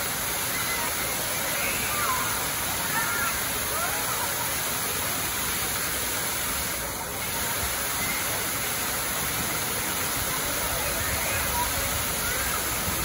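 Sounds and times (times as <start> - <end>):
fountain water splashing into pool: 0.0 - 13.0.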